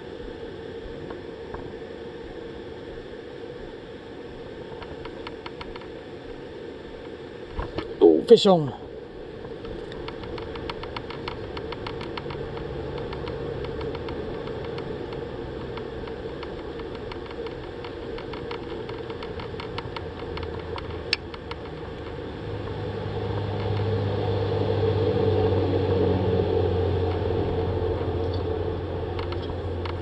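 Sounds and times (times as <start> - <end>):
low drone: 0.0 - 30.0.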